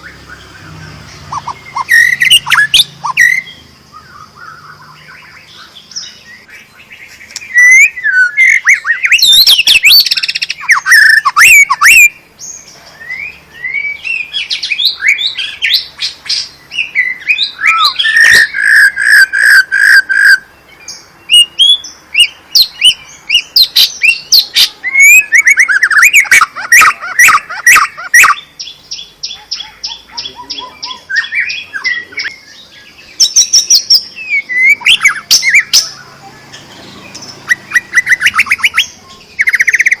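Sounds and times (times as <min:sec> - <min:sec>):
bird singing whistled phrases: 0:00.0 - 0:40.0.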